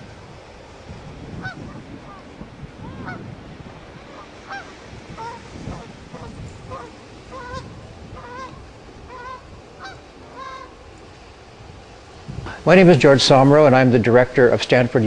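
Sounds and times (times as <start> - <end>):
gulls calling: 0.0 - 15.0
surf on rocks: 0.0 - 15.0.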